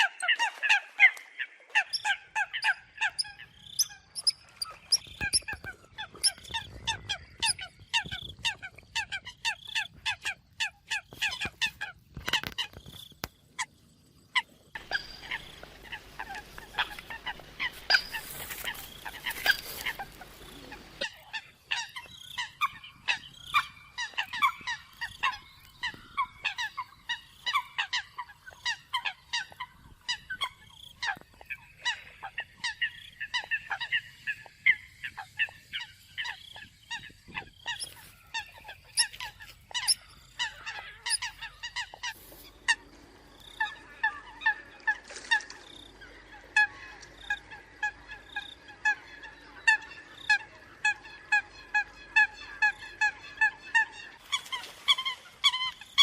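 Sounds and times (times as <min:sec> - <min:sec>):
coots calling: 0:00.0 - 0:56.0.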